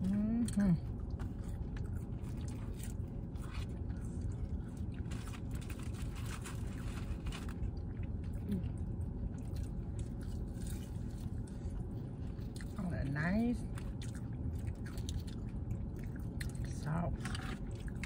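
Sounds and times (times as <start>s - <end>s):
low car interior rumble: 0.0s - 18.0s
people chewing crunchy food: 0.0s - 18.0s.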